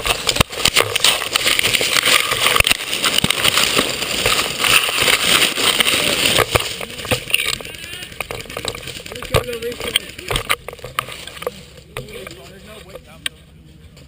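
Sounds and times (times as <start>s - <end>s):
steady rushing noise: 0.0s - 13.3s.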